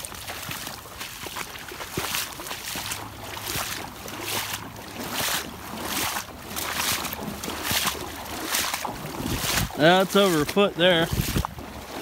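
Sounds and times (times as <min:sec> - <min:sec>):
boots sloshing through water: 0:00.0 - 0:12.0.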